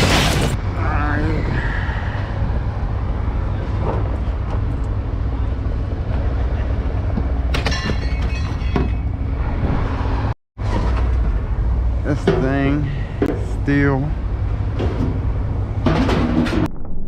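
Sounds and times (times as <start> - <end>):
machinery rumbling: 0.0 - 17.0.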